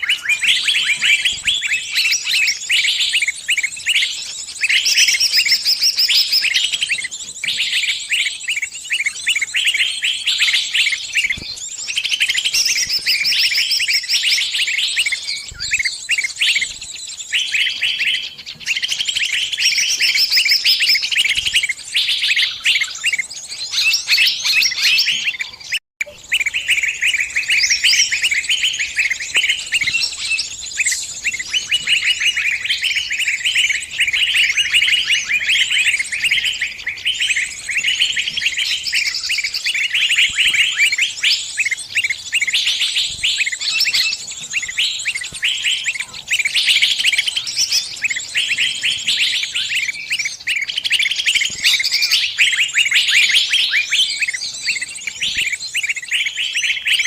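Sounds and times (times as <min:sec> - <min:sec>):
songbird distress chirping: 0:00.0 - 0:57.0.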